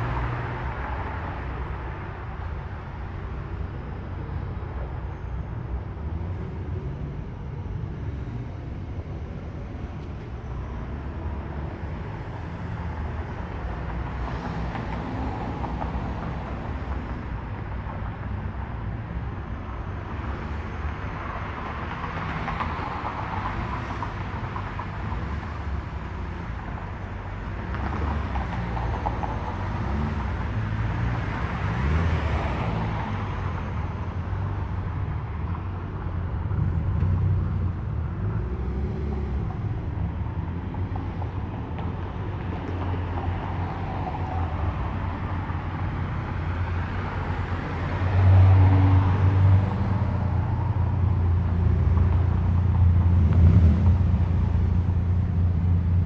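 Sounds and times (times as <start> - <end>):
cars driving by slowly: 0.0 - 56.0.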